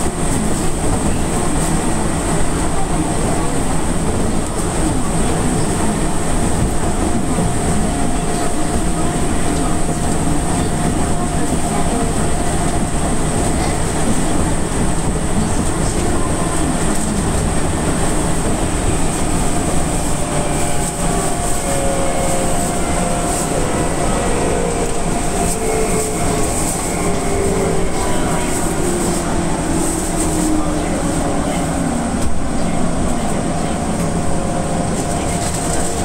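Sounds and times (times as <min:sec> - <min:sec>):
train running gear hum: 0:00.0 - 0:36.0
train wheels rumbling on rails: 0:00.0 - 0:36.0.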